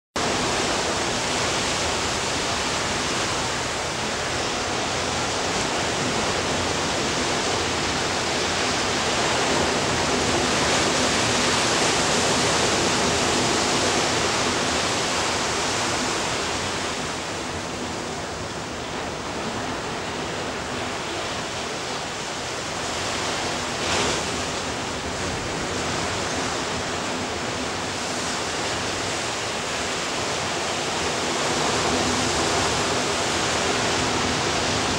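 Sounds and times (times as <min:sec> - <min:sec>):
ocean surf on beach: 0:00.2 - 0:34.9.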